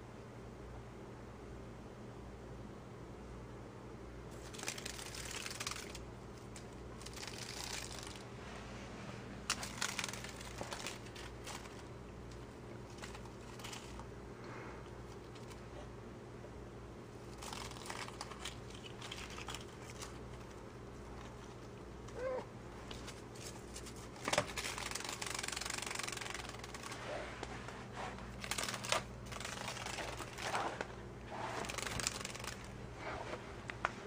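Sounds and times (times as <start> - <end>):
cat scratching on tile floor: 4.4 - 15.9, 17.2 - 34.0.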